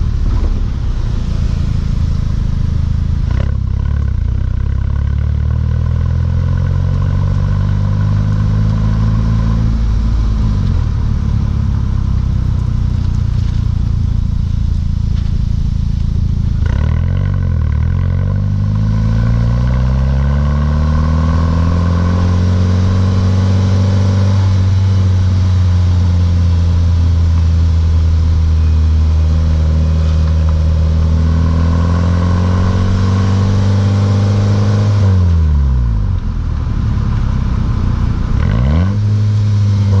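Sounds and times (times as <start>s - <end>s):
car exhaust low note: 0.0s - 40.0s.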